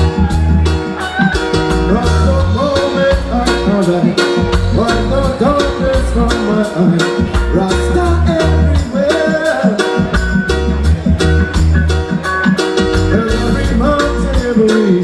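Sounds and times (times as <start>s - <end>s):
upbeat reggae band music: 0.0s - 15.0s.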